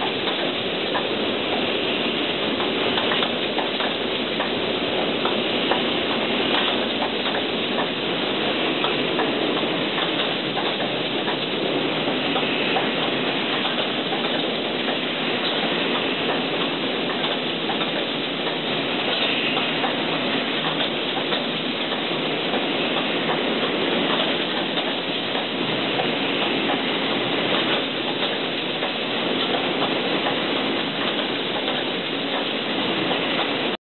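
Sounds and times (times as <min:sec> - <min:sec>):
spray-painting machine running: 0:00.2 - 0:33.8.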